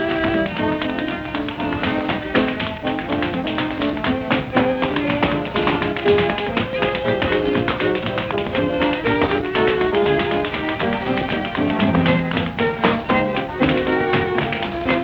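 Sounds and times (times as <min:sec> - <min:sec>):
small jazz band playing: 0:00.0 - 0:15.0
tap dancing: 0:00.0 - 0:15.0.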